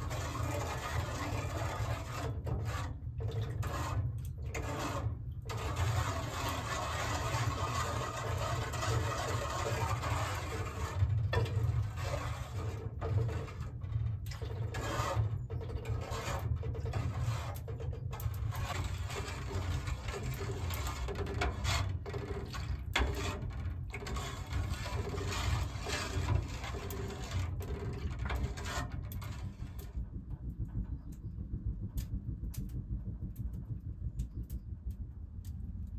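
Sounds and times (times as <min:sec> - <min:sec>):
metal spoon scraping metal bowl: 0:00.0 - 0:29.4
low rumble: 0:00.0 - 0:35.9.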